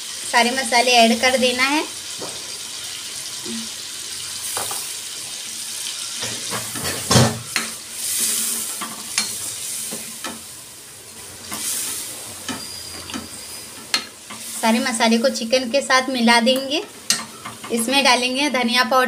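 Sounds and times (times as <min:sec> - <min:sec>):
food sizzling while frying: 0:00.0 - 0:19.0.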